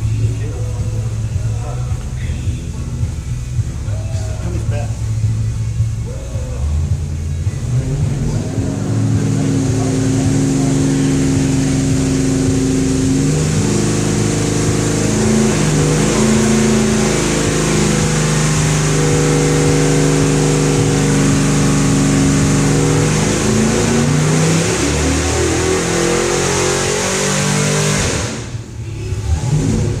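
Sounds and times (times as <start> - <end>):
engine running on a dynamometer: 0.0 - 30.0.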